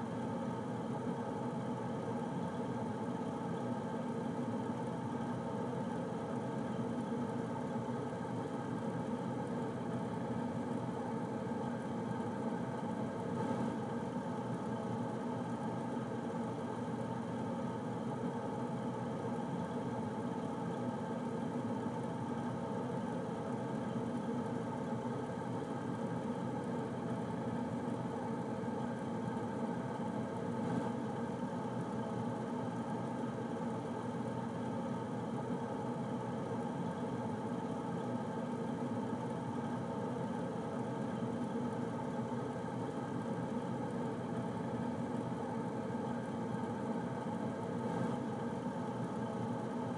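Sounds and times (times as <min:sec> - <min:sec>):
air conditioner humming: 0:00.0 - 0:49.9.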